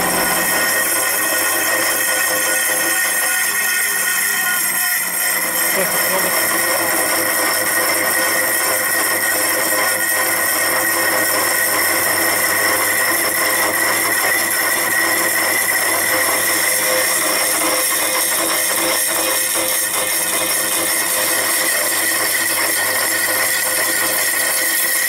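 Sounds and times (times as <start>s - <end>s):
slitting saw cutting steel: 0.0s - 25.0s.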